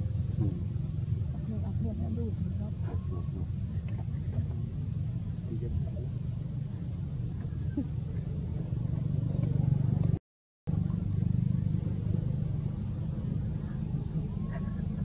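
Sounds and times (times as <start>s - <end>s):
engine running low rumble: 0.0s - 15.0s.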